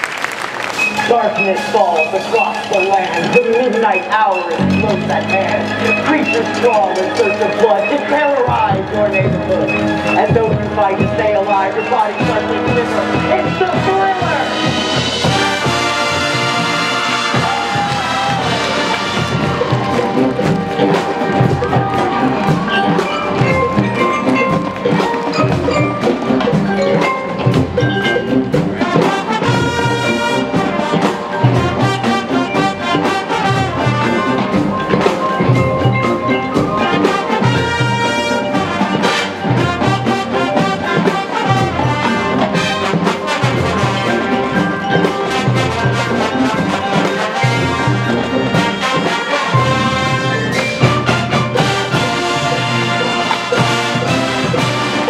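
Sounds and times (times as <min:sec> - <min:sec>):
marching band playing: 0:00.0 - 0:55.0.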